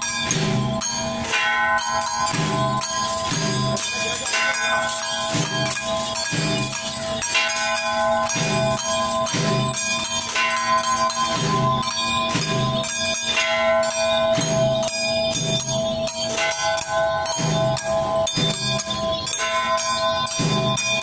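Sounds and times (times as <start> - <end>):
drum beats: 0.0 - 21.0
jingling bells: 0.0 - 21.0
ringing metal: 0.0 - 21.0.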